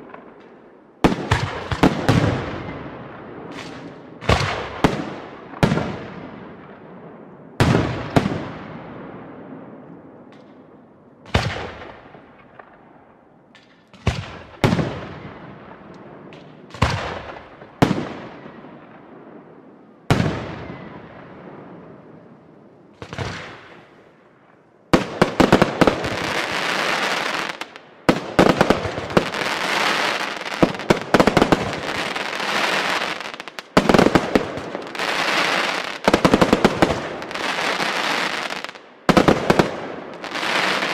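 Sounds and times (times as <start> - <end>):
crackling firework barrage: 0.0 - 10.6, 13.6 - 40.9.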